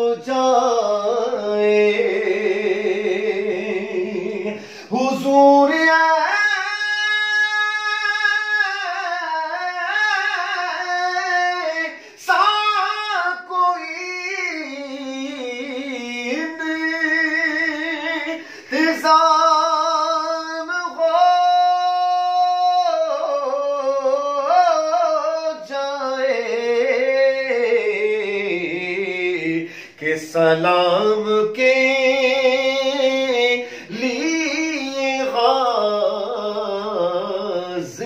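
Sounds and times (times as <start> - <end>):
man singing unaccompanied: 0.0 - 38.0.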